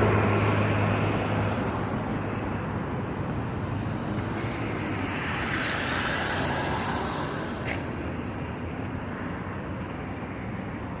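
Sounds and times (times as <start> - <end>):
vehicle passing close by: 0.0 - 10.2
road traffic: 0.0 - 11.0.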